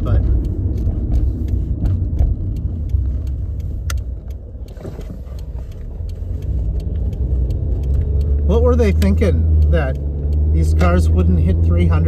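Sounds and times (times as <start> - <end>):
car road rumble inside cabin: 0.0 - 12.0
steady low hum: 0.0 - 12.0.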